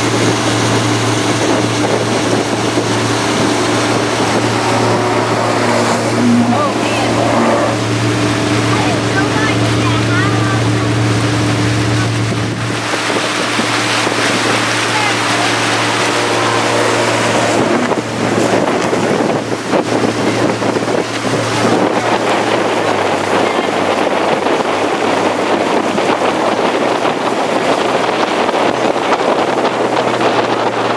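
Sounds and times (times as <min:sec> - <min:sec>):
motorboat engine hum: 0:00.0 - 0:30.9
rushing wind and water: 0:00.0 - 0:30.9
wind buffeting microphone: 0:00.0 - 0:30.9.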